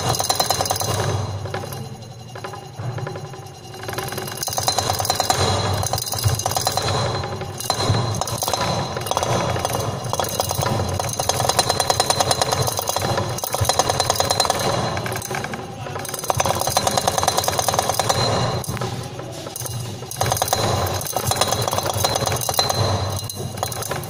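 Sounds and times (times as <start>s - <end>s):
refrigerator compressor rattling: 0.0s - 24.0s.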